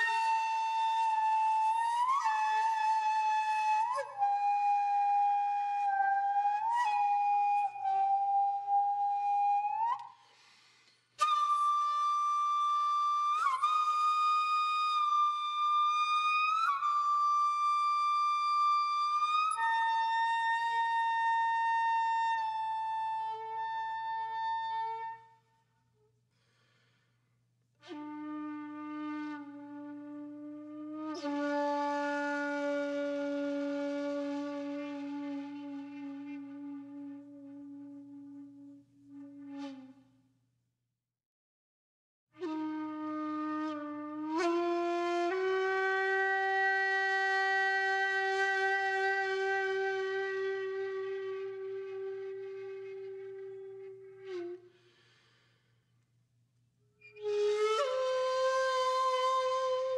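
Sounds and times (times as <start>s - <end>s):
slow wind instrument melody: 0.0s - 10.6s, 11.2s - 26.8s, 27.6s - 40.4s, 42.4s - 55.6s, 56.6s - 59.9s.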